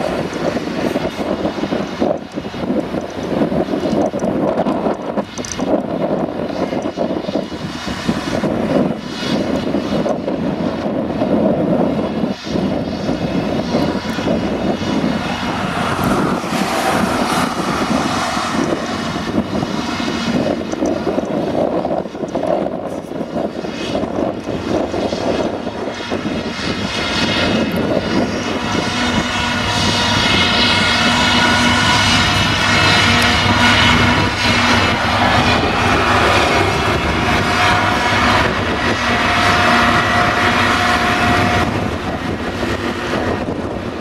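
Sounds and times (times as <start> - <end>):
forage harvester engine and chopper: 0.0 - 44.0.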